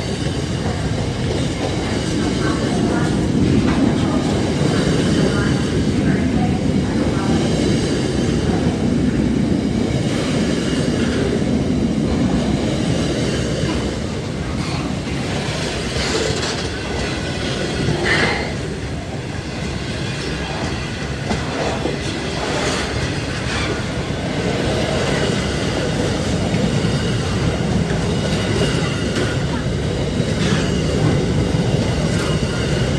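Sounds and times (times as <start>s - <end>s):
freight train wagons rumbling: 0.0s - 32.9s.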